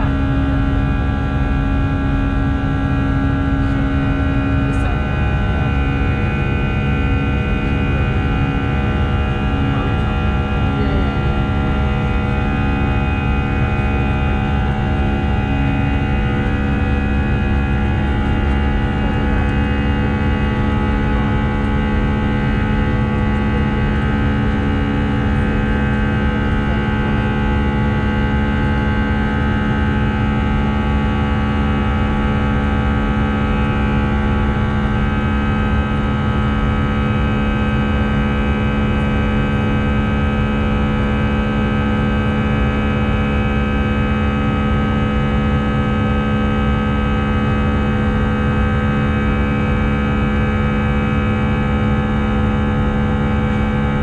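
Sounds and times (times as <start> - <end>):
jet engine cabin drone: 0.0 - 54.0
low hum with steady tones: 0.0 - 54.0.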